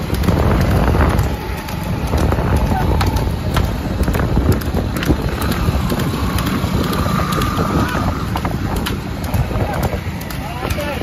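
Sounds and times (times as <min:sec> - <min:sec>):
cart clicks and knocks: 0:00.0 - 0:11.0
motorcycle and road noise: 0:00.0 - 0:11.0
wind rushing over microphone: 0:00.0 - 0:11.0.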